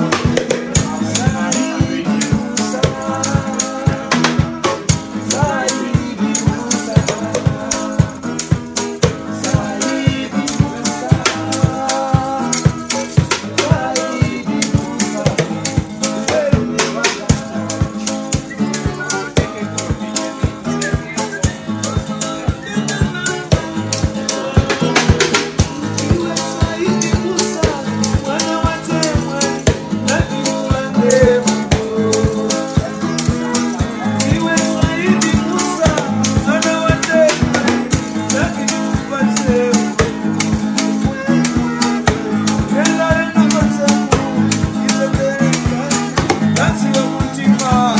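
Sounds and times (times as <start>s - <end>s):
acoustic guitar strumming: 0.0s - 47.9s
hand drums beating: 0.0s - 47.9s
man singing: 0.0s - 47.9s.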